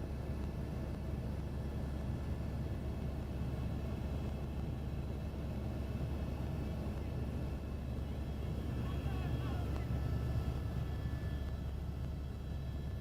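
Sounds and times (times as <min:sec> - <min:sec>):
helicopter rotor and engine hum: 0:00.0 - 0:13.0.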